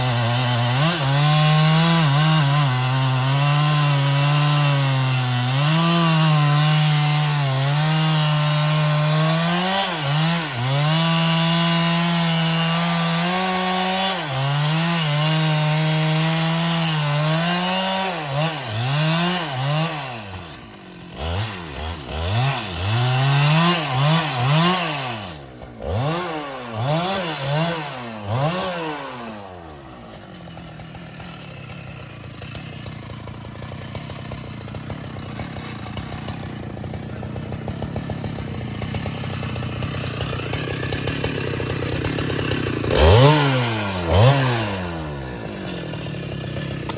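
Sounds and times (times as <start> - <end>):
chainsaw cutting wood: 0.0 - 46.9
chainsaw idling: 0.0 - 46.9
chainsaw revving: 0.0 - 46.9.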